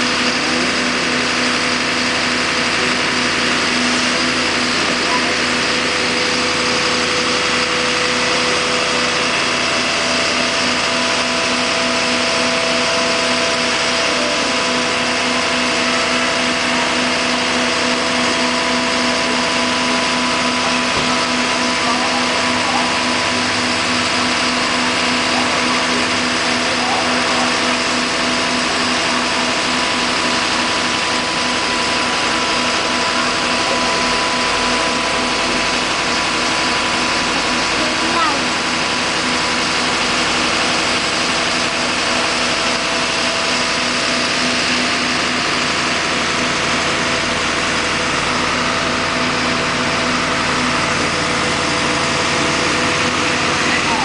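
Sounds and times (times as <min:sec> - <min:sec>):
constant hums: 0:00.0 - 0:54.0
machine droning: 0:00.0 - 0:54.0.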